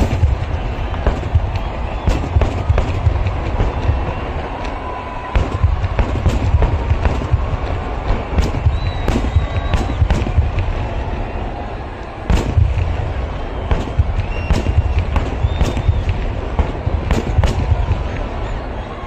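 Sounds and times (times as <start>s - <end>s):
deep rumble of explosions: 0.0s - 19.0s
fireworks bangs: 0.0s - 19.0s.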